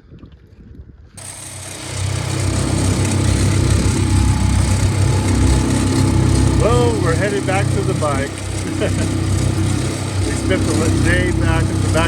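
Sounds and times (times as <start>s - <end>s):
outboard motor running: 1.2s - 12.0s.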